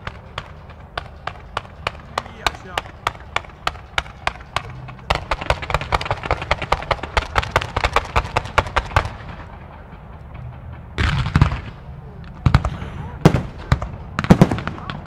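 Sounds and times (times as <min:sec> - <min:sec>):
fireworks sharp bangs: 0:00.0 - 0:15.0
loud firework bang: 0:00.0 - 0:15.0.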